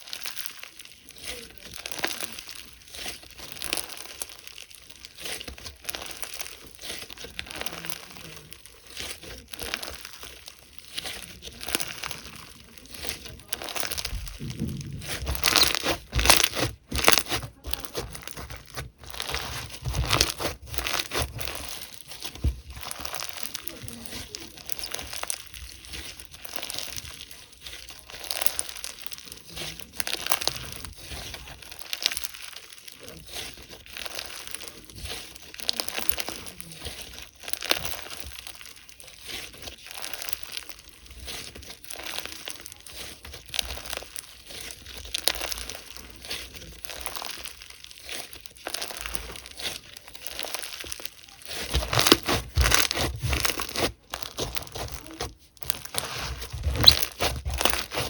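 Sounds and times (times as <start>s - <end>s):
hands squishing slime: 0.0s - 58.0s.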